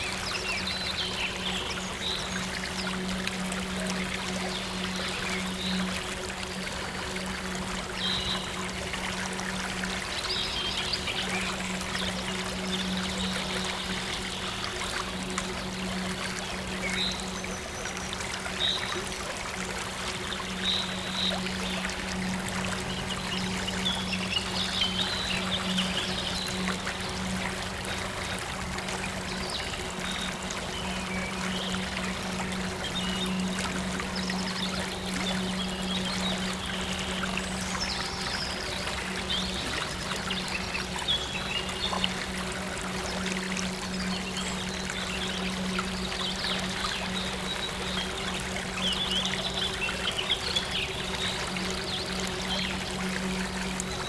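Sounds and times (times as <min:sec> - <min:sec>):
soft synth drone: 0:00.0 - 0:54.0
stream water trickling: 0:00.0 - 0:54.0.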